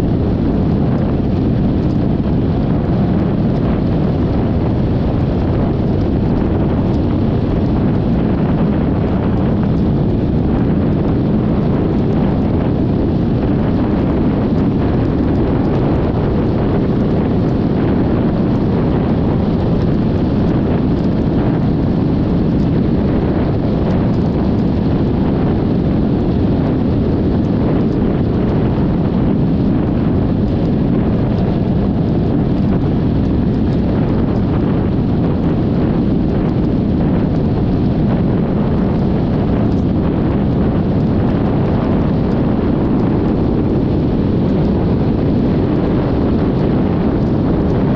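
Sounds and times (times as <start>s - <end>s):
wind noise on microphone: 0.0s - 47.9s.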